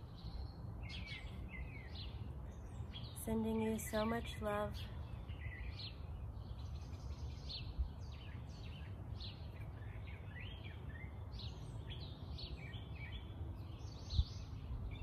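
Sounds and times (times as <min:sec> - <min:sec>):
songbirds chirping and twittering: 0:00.0 - 0:15.0.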